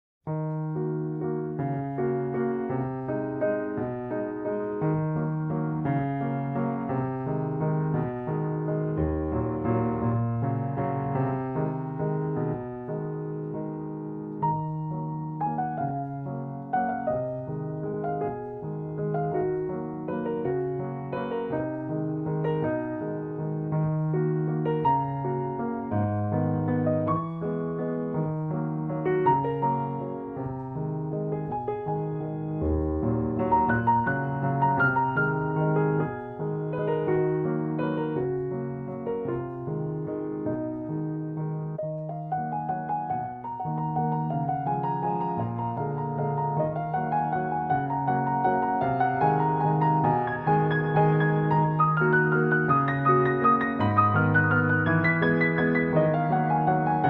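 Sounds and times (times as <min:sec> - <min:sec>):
piano music: 0:00.3 - 0:57.0.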